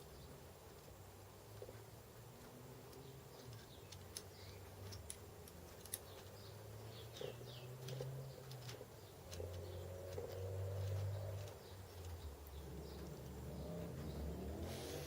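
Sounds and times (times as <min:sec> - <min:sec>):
low steady hum: 0:00.0 - 0:15.0
small metal parts clicking: 0:01.6 - 0:14.1
birds chirping: 0:01.6 - 0:15.0.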